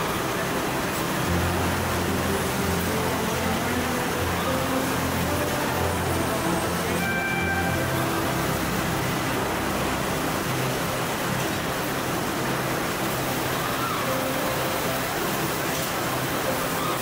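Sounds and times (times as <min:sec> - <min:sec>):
production line machine noise: 0:00.0 - 0:17.0.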